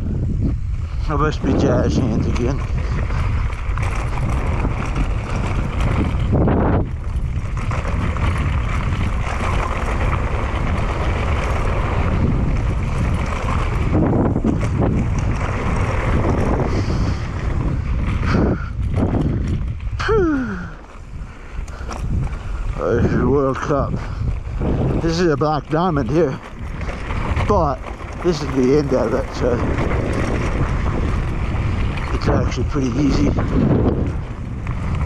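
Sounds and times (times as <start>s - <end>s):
bike knocking and rattling: 0.0s - 35.0s
wind rushing over microphone: 0.0s - 35.0s
tyres running over dirt: 0.4s - 35.0s.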